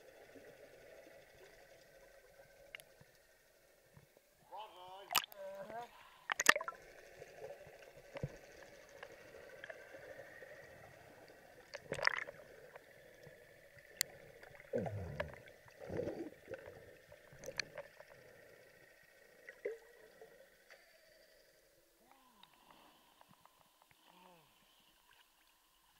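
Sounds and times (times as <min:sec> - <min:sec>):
faint underwater hiss: 0:00.0 - 0:25.9
gurgling water swishes: 0:00.0 - 0:25.9.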